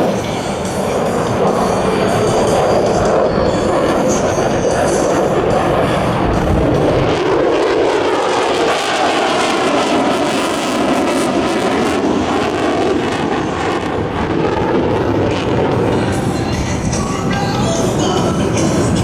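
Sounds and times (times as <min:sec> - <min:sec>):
fighter jet flying past: 0:00.0 - 0:19.0.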